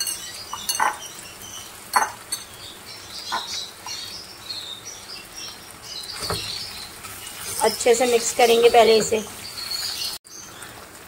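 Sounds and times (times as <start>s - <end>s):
faint oil sizzle: 0.0s - 11.0s.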